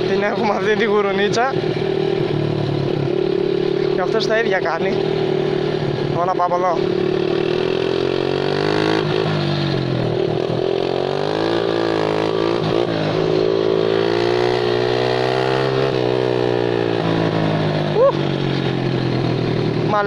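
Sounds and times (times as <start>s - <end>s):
quad engine revving: 0.0s - 20.0s.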